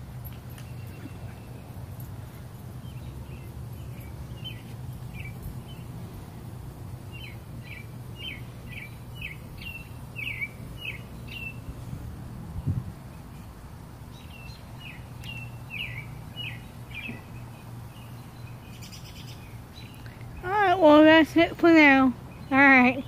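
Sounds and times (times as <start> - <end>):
bird chirping: 0.2 - 6.3, 7.0 - 11.7, 13.1 - 20.9.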